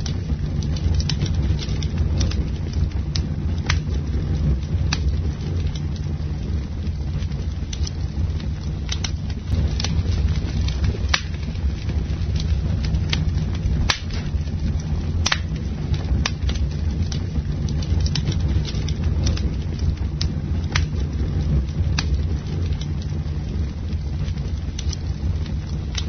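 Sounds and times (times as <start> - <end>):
campfire crackling and popping: 0.0 - 26.0
low fire rumble: 0.0 - 26.0.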